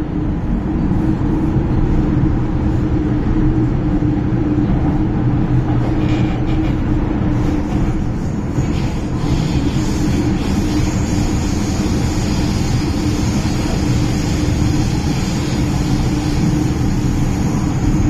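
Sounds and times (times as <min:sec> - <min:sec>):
train hum: 0:00.0 - 0:18.0
train wheels rumbling on rail: 0:00.0 - 0:18.0.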